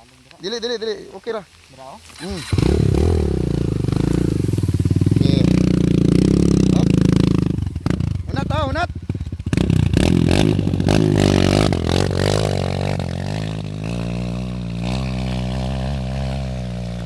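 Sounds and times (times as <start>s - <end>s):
dirt bike engine revving: 2.1s - 17.0s.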